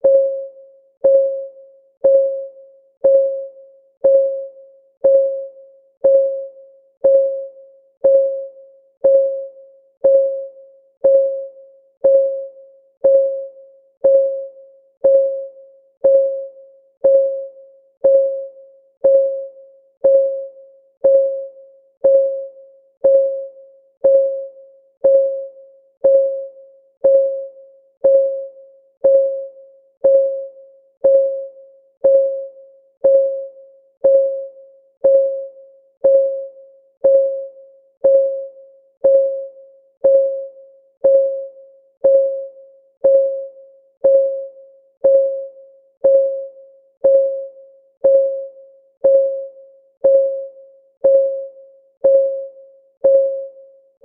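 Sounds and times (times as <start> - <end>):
timer clock ticking: 0.0 - 53.6.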